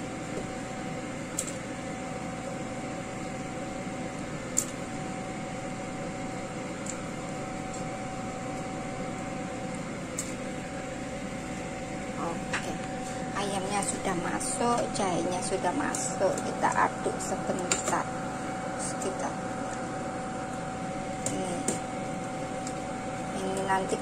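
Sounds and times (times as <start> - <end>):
kitchen fan humming: 0.0 - 24.0.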